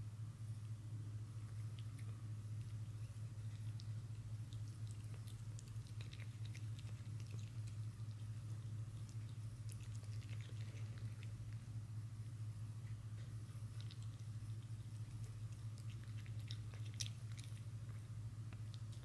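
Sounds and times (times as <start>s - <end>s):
low hum: 0.0s - 19.0s
cat chewing and licking: 0.5s - 19.0s.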